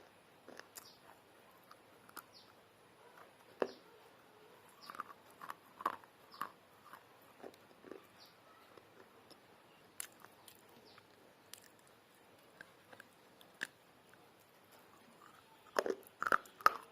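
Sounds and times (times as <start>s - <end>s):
crunchy chewing: 0.4s - 16.9s.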